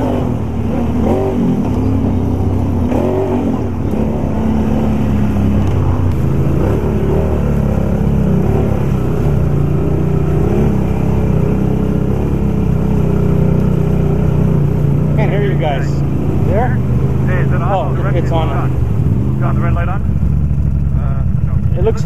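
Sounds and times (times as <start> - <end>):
water washing around wheels: 0.0 - 21.0
atv engine running: 0.0 - 22.0.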